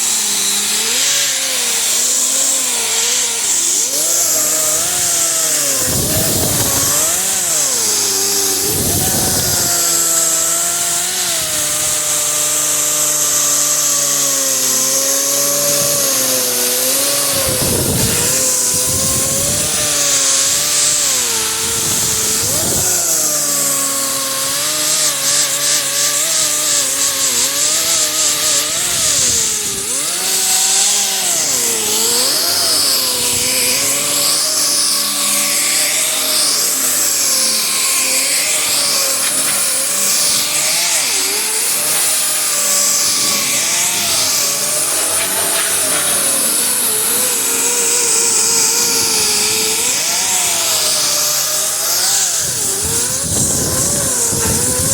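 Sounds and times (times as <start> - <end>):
power sander grinding paint: 0.0 - 54.9.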